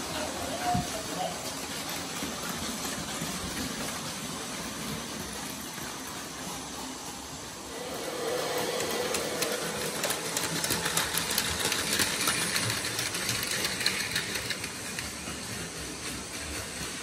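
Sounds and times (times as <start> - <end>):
wheels clicking over rail joints: 0.0 - 7.6, 8.6 - 17.0
toy train motors whirring: 0.0 - 17.0.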